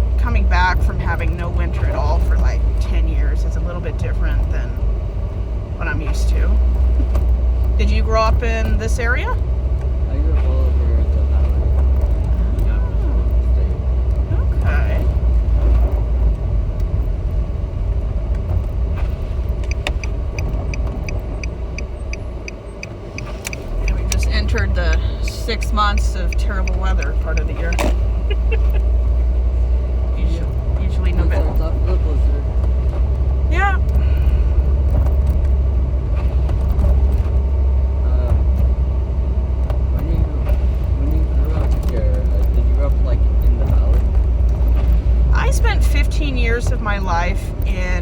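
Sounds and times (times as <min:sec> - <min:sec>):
car driving low rumble: 0:00.0 - 0:48.0
turn signal ticking: 0:00.0 - 0:48.0.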